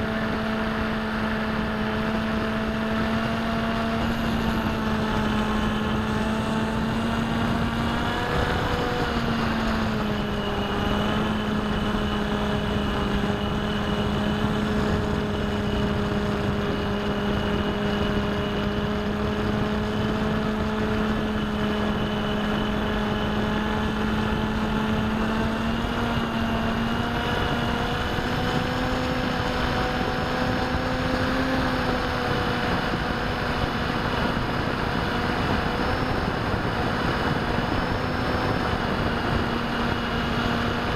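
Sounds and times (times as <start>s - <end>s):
electric motor and propeller drone: 0.0s - 40.9s.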